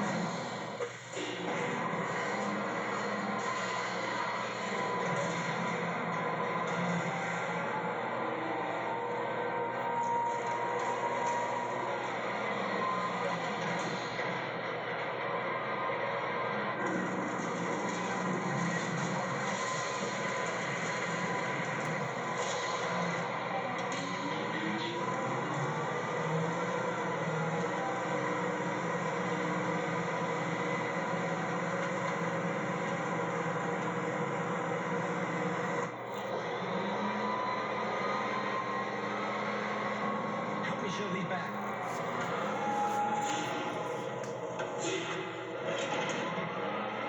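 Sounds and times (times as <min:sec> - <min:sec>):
garbage truck machinery running: 0:00.0 - 0:47.0.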